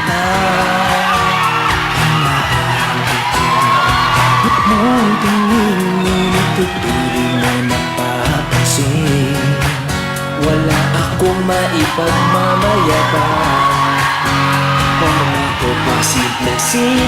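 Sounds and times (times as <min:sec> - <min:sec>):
pop music with singing: 0:00.0 - 0:17.0.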